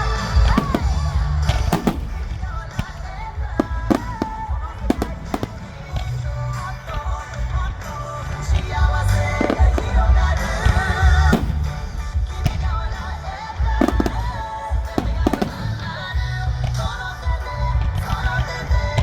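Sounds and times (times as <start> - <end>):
fireworks booming and cracking: 0.0 - 19.0.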